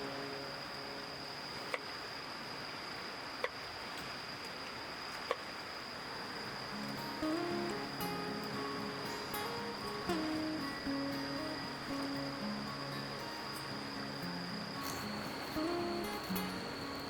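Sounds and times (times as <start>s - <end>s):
insects calling high-pitched: 0.0s - 17.0s
soft background hiss: 0.0s - 17.0s.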